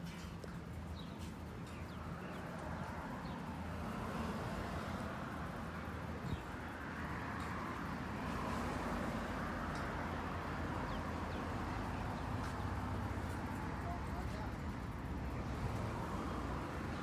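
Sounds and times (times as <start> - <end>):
traffic hum: 0.0 - 17.0.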